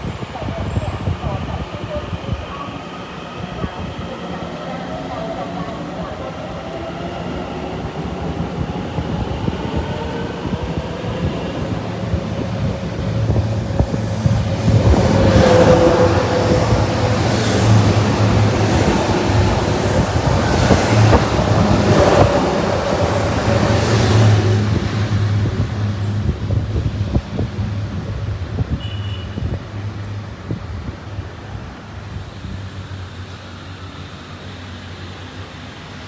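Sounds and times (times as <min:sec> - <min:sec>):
train low hum: 0:00.0 - 0:36.0.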